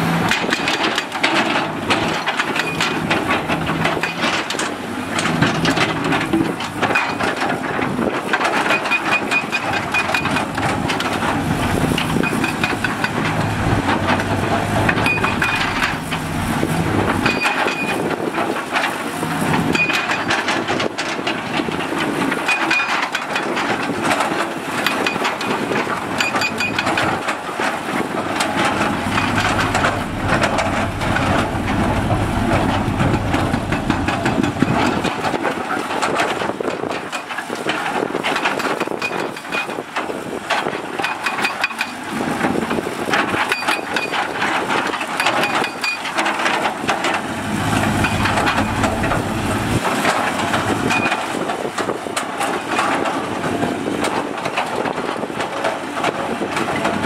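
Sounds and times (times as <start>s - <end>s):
diesel construction machinery running: 0.0s - 57.0s
metallic knocks and clanks: 0.2s - 39.8s, 40.5s - 55.0s.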